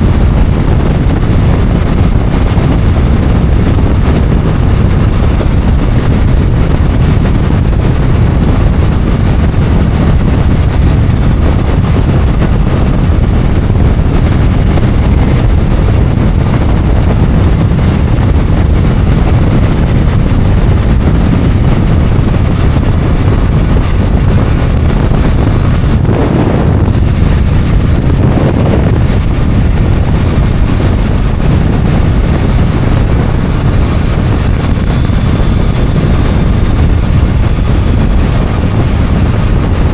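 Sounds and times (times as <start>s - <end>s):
motorcycle engine drone: 0.0s - 39.9s
wind rushing over microphone: 0.0s - 39.9s.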